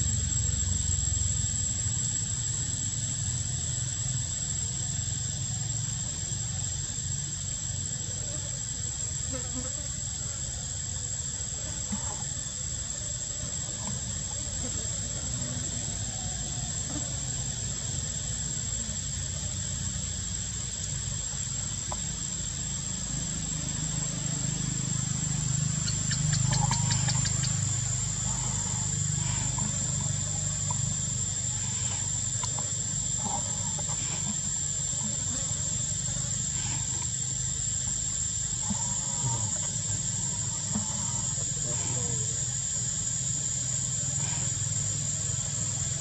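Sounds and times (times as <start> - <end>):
insects droning: 0.0 - 46.0
rapid pulsing insect call: 0.0 - 46.0.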